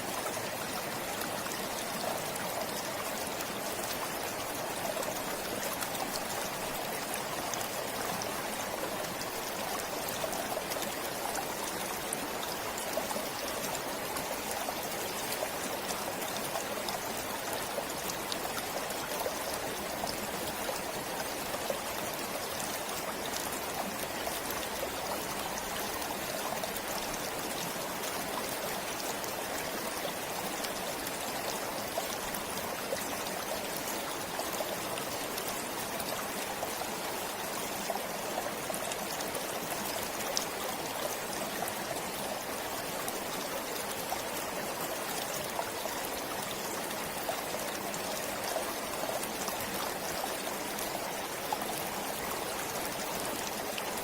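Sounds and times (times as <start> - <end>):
stream babbling: 0.0 - 54.0.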